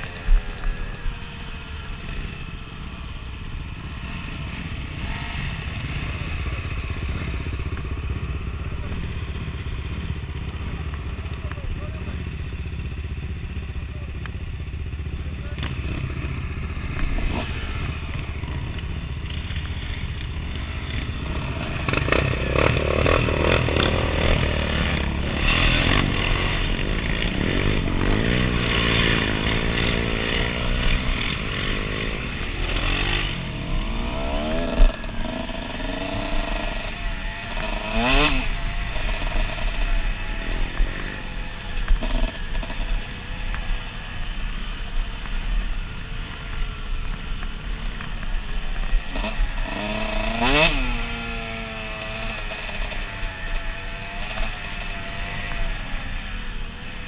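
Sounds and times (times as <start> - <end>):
dirt bike engine revving: 3.9 - 11.2, 14.9 - 57.0.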